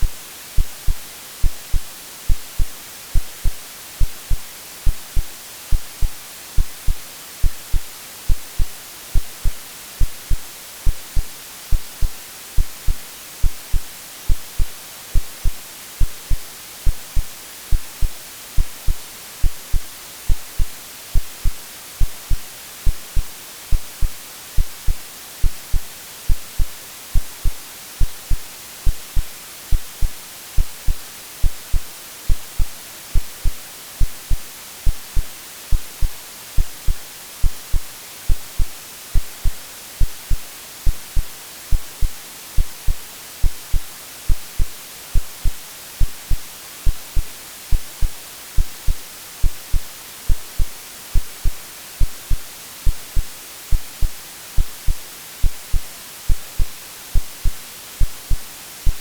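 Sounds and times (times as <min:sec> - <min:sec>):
heartbeat low thumps: 0:00.0 - 0:59.0
white noise hiss: 0:00.0 - 0:59.0.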